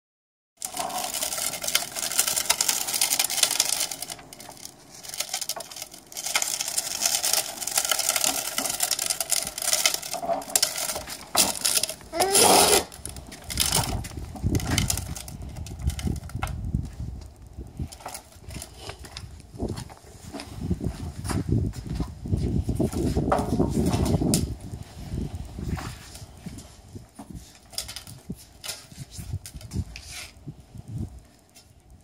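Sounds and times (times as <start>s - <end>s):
plastic wheels rattling on concrete: 0.6s - 31.7s.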